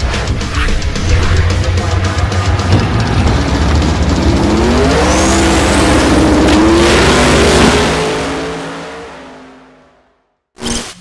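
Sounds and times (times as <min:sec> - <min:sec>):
car engine accelerating hard: 0:00.9 - 0:10.0.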